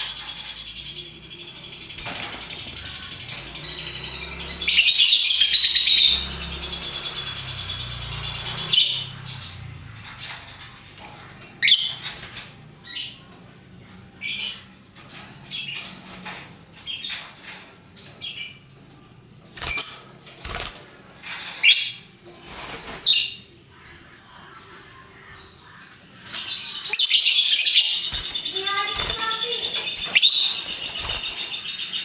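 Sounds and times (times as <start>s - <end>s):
lovebirds chirping and squawking: 0.0s - 18.7s, 19.5s - 32.0s.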